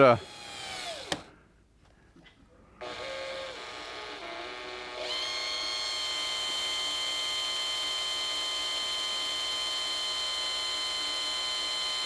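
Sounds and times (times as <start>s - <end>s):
cordless drill motor whine: 0.2s - 1.3s, 2.8s - 12.0s.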